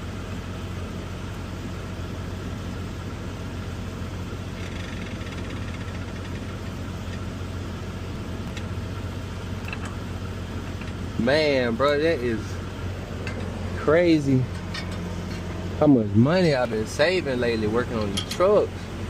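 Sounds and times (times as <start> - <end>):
truck diesel engine idling: 0.0 - 19.0.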